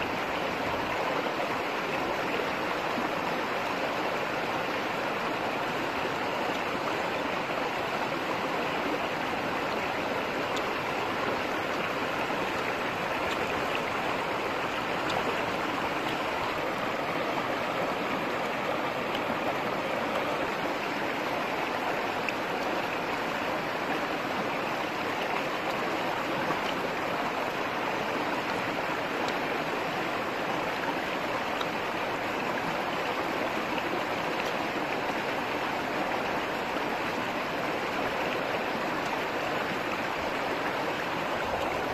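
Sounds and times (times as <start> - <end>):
stream rushing over stones: 0.0 - 41.9.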